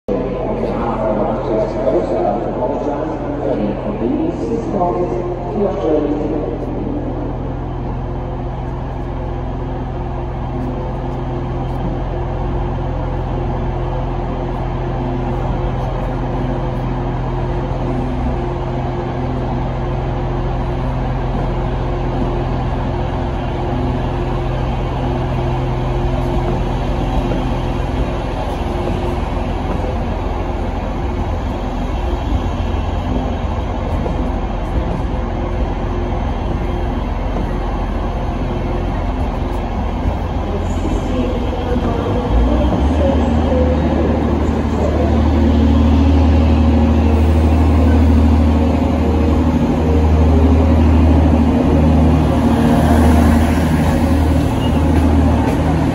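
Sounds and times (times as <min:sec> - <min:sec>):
deep rumble of passing train: 0:00.0 - 0:55.9
train traction humming: 0:00.1 - 0:55.9.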